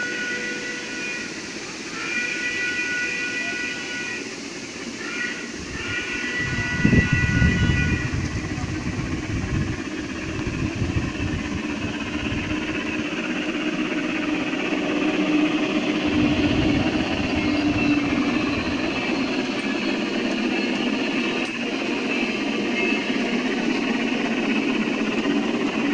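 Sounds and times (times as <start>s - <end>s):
model train rolling on track: 0.0s - 25.9s.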